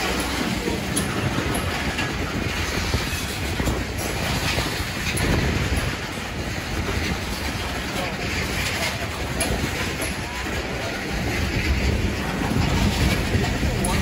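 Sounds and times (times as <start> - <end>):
train wheels rumbling on rails: 0.0 - 14.0
wheels clicking over rail joints: 0.0 - 14.0.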